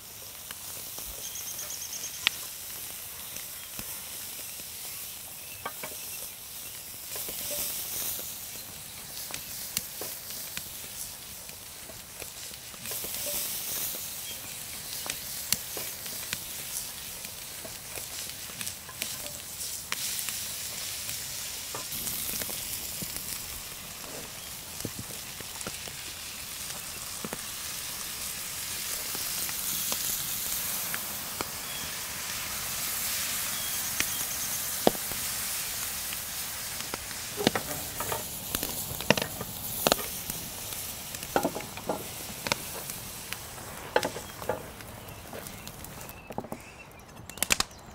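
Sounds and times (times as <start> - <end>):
food sizzling in a pan: 0.0 - 46.2
sharp pops and crackles: 0.1 - 32.8, 33.4 - 47.9.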